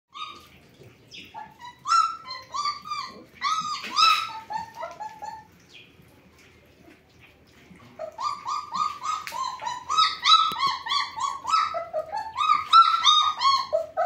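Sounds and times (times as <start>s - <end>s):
puppies whining and yelping: 0.1s - 5.7s, 7.7s - 14.0s.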